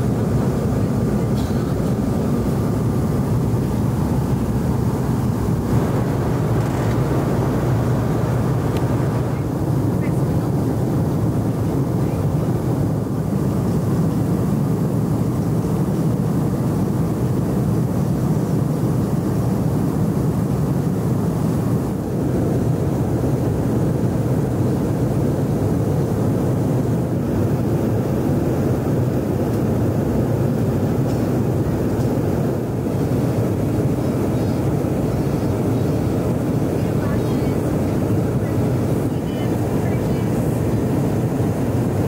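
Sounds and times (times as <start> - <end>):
airliner cabin noise: 0.0 - 42.0.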